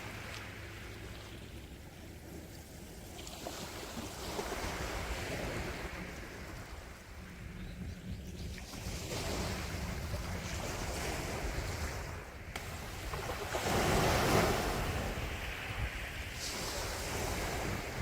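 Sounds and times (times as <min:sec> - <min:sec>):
sea waves washing onto shore: 0:00.0 - 0:07.2, 0:08.7 - 0:18.0
wind: 0:00.0 - 0:18.0.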